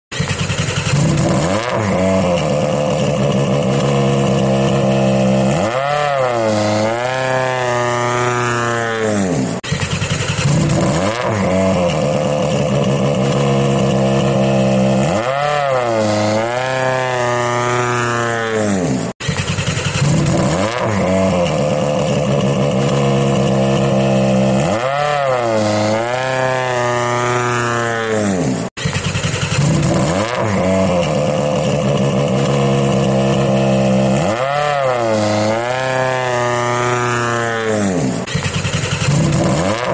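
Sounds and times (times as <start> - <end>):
vehicle engine revving: 0.1 - 39.9.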